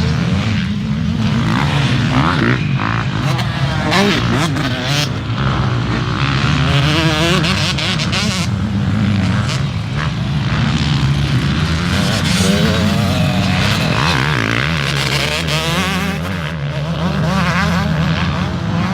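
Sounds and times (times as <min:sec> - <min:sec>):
motocross bikes revving: 0:00.0 - 0:18.9.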